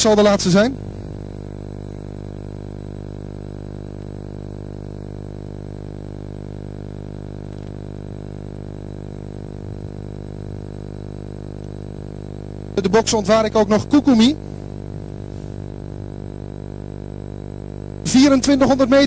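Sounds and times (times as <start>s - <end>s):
faint high whine: 0.0s - 19.0s
steady electrical hum: 0.0s - 19.0s.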